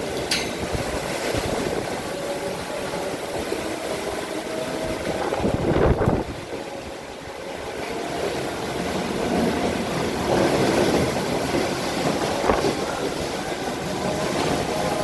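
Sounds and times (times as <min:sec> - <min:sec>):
gusty wind rumbling: 0:00.0 - 0:15.0
heavy rain hissing: 0:00.0 - 0:15.0.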